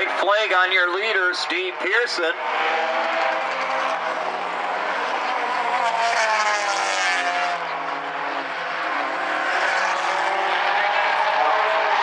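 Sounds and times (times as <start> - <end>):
race car engines running hard: 0.0 - 12.0.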